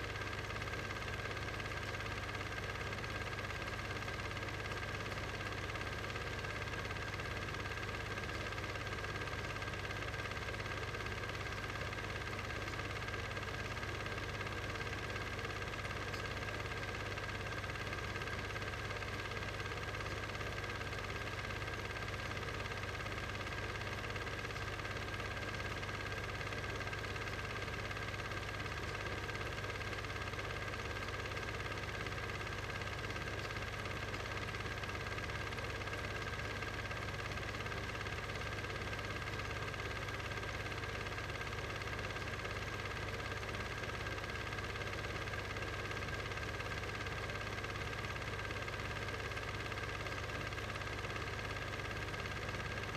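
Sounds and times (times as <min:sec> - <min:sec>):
steady machine hum with hiss: 0:00.0 - 0:52.9.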